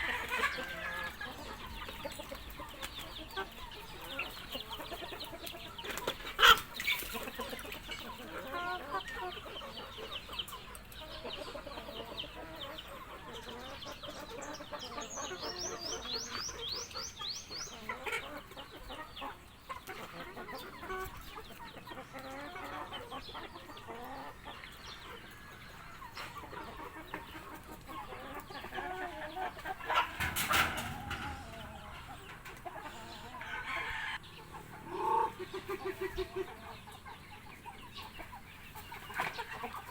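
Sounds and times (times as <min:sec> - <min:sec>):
chickens chirping calls: 0:00.0 - 0:39.9
chickens clucking: 0:00.0 - 0:39.9.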